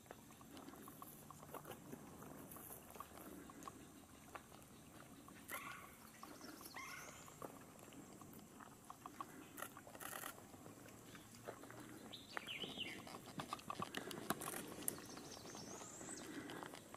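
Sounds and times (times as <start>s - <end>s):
small clicks and ticks: 0.0s - 16.9s.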